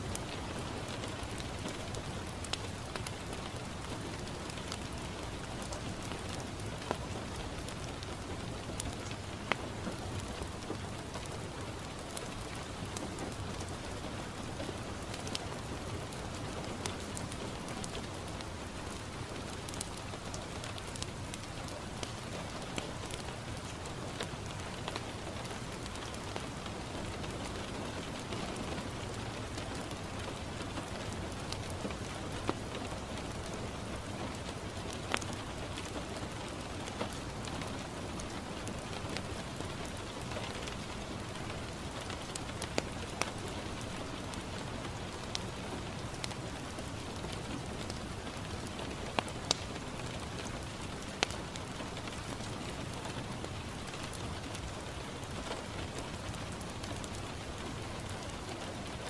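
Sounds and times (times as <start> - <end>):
rain on a window pane: 0.0 - 59.0
wood fire crackling and popping: 0.1 - 59.0.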